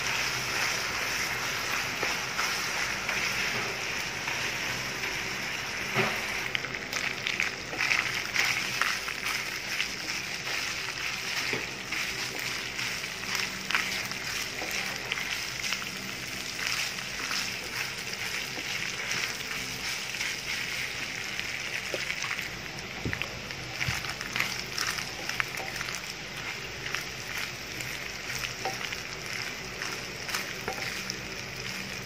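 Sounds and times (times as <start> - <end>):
meat sizzling in a frying pan: 0.0 - 32.0.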